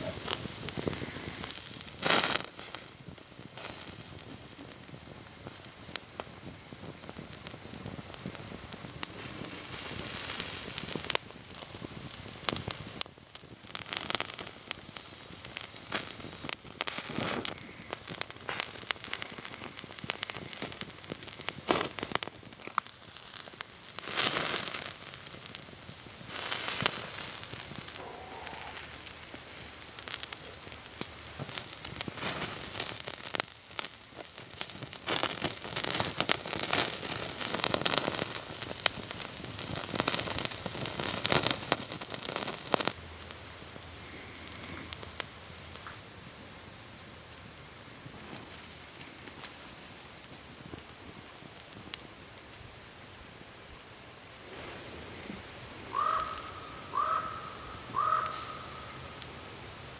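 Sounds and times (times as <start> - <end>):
campfire crackling and popping: 0.0 - 59.9
fire hissing flare-ups: 0.0 - 59.9.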